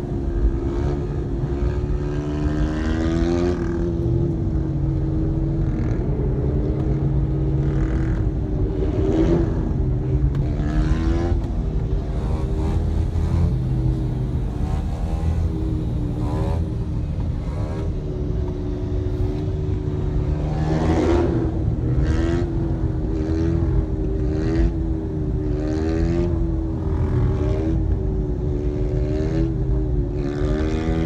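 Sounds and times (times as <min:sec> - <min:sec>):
engine and road rumble: 0:00.0 - 0:31.0.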